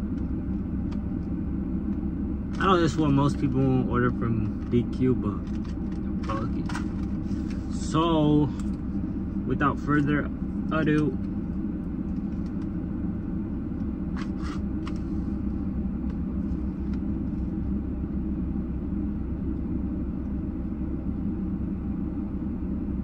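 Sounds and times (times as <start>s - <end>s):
car idling: 0.0s - 23.0s.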